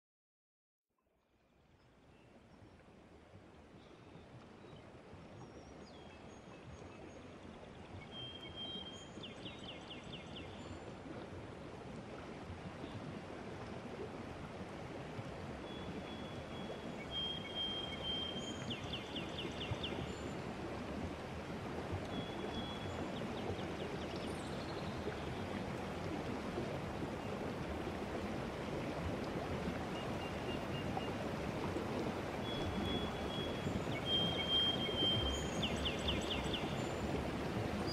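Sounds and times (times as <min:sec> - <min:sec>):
running water: 0:02.3 - 0:37.9.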